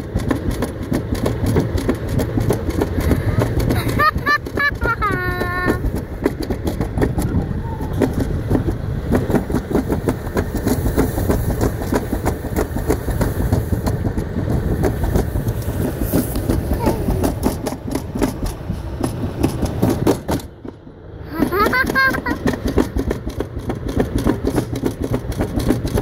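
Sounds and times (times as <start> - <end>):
sled rattling down metal track: 0.0 - 26.0.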